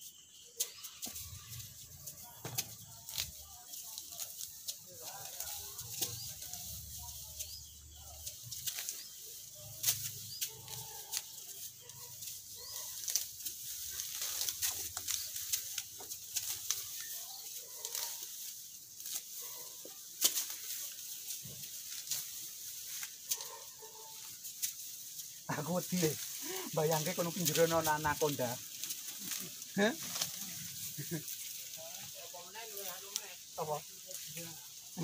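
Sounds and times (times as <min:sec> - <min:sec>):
grass rustling and snapping: 0:00.3 - 0:35.0.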